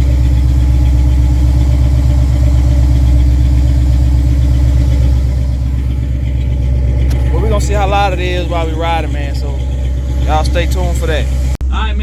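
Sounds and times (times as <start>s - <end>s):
pickup engine idling: 0.0s - 11.6s.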